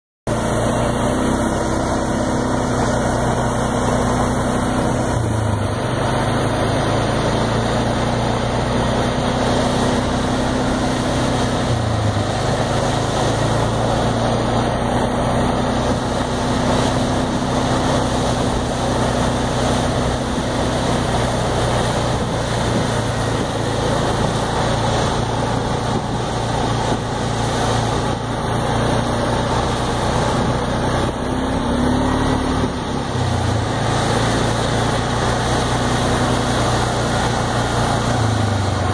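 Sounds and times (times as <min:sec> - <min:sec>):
crop sprayer engine running: 0:00.3 - 0:38.9.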